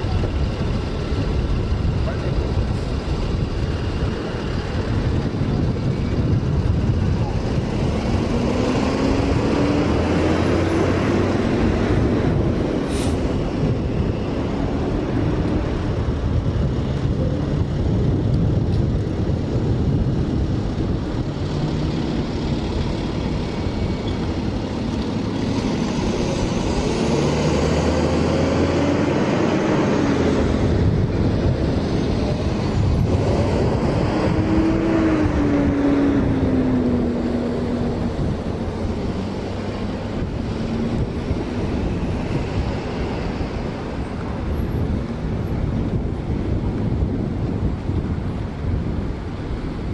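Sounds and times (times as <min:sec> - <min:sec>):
engine running: 0:00.0 - 0:49.9
loud rushing noise: 0:00.0 - 0:49.9.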